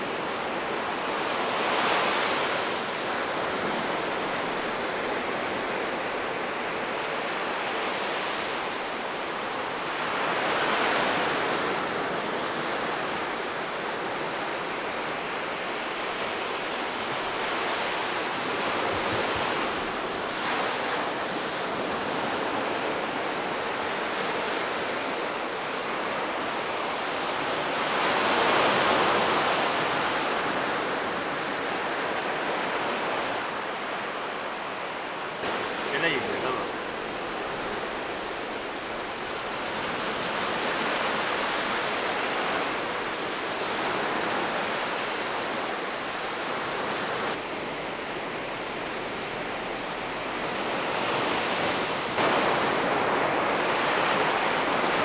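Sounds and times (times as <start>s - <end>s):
sea surf breaking on beach: 0.0s - 55.0s.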